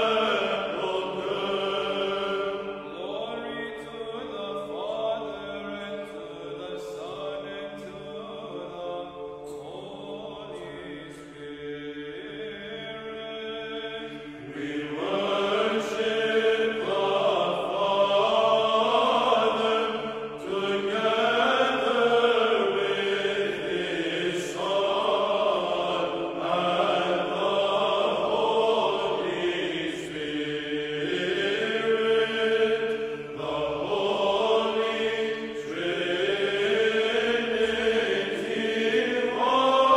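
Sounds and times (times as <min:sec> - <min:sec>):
slow choral chant: 0:00.0 - 0:39.9.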